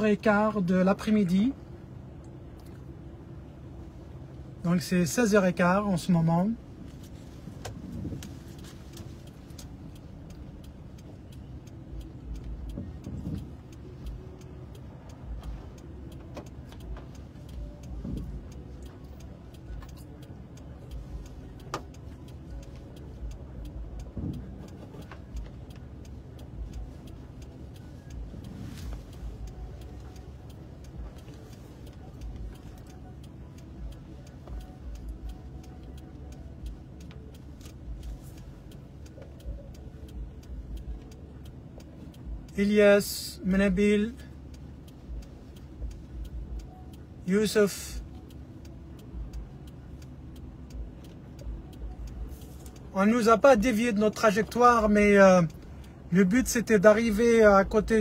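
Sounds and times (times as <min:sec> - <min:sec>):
car idling hum: 0:00.0 - 0:58.0
faint ticks: 0:00.1 - 0:58.0.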